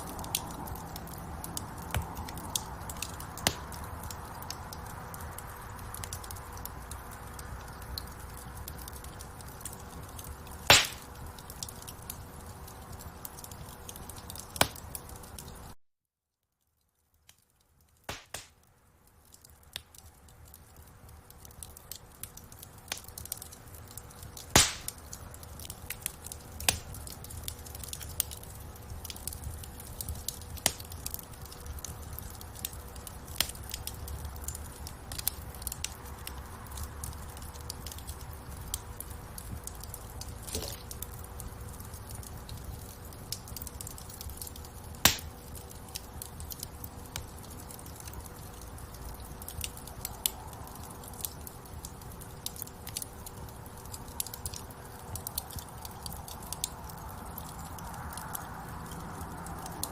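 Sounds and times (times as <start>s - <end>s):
low rumble of flames: 0.0s - 15.8s, 16.8s - 59.9s
wood fire crackling: 0.0s - 15.8s, 16.6s - 59.9s.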